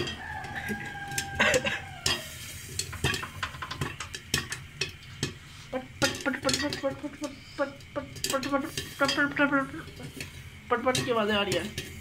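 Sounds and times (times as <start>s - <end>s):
faint oil sizzle: 0.0s - 12.0s
popcorn popping against pot lid: 0.0s - 12.0s.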